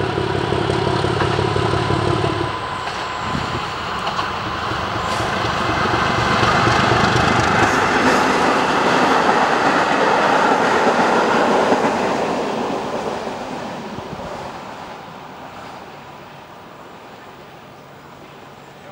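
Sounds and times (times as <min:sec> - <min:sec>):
diesel locomotive passing: 0:00.0 - 0:18.9
train wheels on track: 0:00.0 - 0:18.9.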